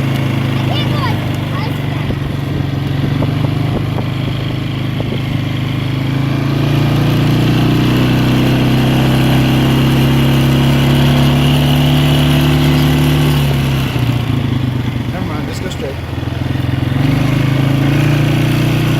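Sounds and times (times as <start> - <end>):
four-wheeler engine revving: 0.0 - 18.9.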